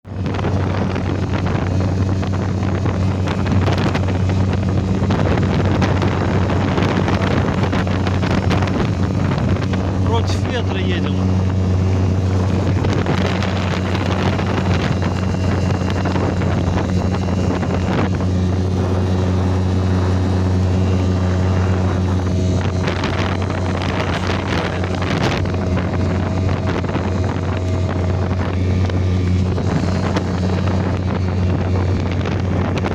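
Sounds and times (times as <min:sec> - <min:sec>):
boat motor humming: 0:00.0 - 0:32.9
wind buffeting microphone: 0:00.0 - 0:32.9.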